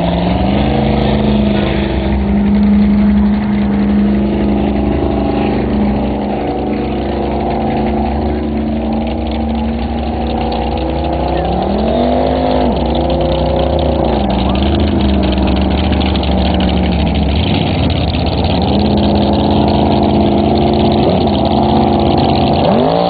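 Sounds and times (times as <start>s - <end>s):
boat engine running at high speed: 0.0s - 23.0s.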